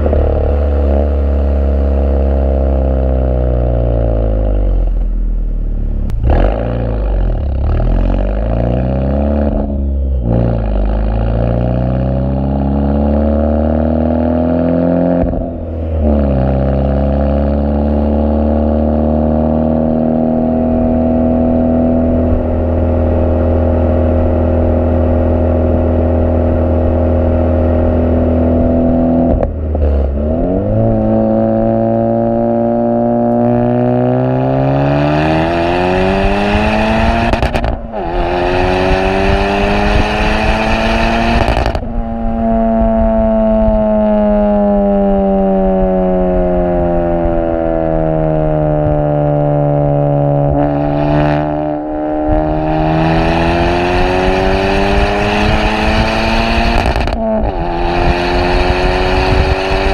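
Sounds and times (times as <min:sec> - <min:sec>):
car exhaust note while driving: 0:00.0 - 0:59.9.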